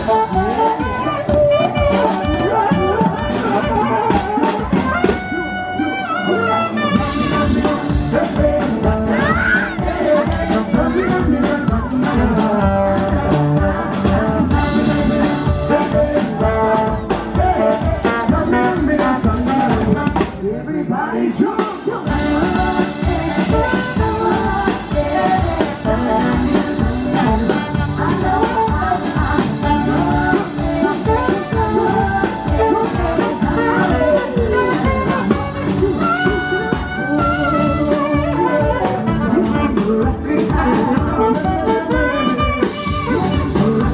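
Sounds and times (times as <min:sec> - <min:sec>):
horns playing: 0:00.0 - 0:19.8, 0:22.1 - 0:43.9
drumbeat: 0:00.0 - 0:20.6, 0:21.6 - 0:43.9
bass: 0:00.0 - 0:43.9
person singing: 0:00.0 - 0:43.9.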